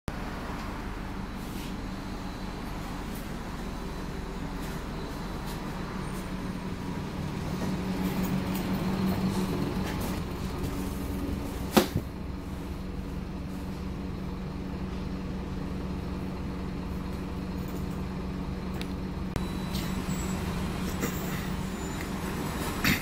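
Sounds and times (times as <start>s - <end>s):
bus diesel engine droning: 0.1s - 23.0s.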